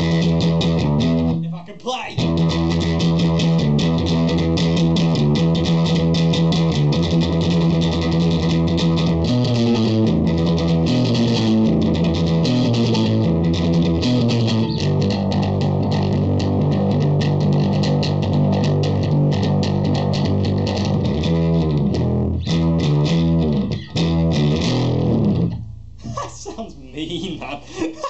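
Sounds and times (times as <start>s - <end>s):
distorted bass guitar: 0.0s - 27.2s.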